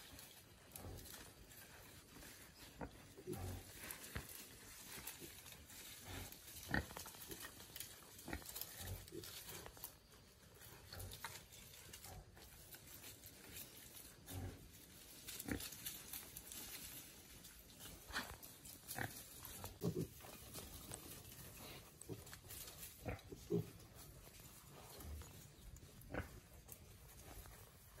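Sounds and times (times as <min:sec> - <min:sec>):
rustling dry leaves: 0:00.0 - 0:28.0.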